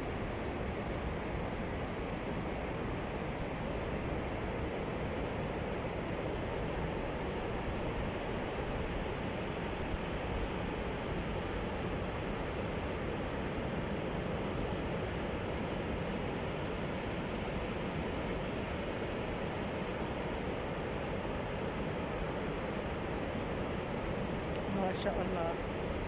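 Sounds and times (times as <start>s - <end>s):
sea waves and surf: 0.0s - 26.0s.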